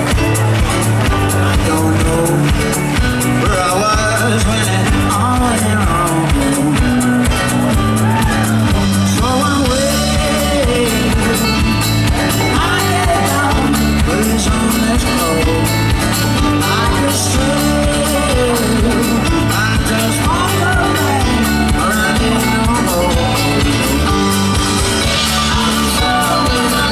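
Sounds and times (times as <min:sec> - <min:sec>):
acoustic guitar: 0:00.0 - 0:26.9
man singing: 0:01.2 - 0:26.9.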